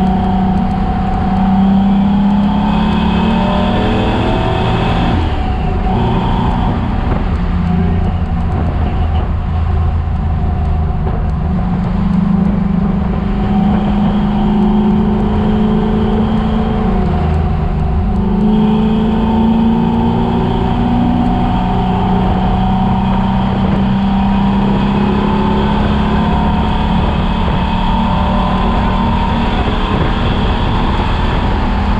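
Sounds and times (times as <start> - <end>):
race car engine: 0.0 - 31.9.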